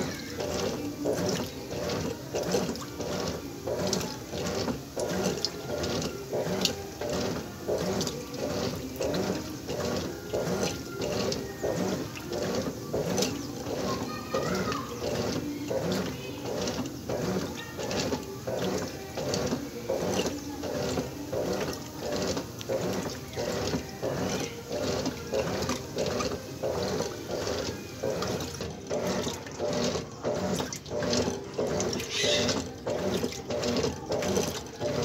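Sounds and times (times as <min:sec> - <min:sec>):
washing machine agitator swishing: 0:00.0 - 0:35.0
water sloshing: 0:00.0 - 0:35.0.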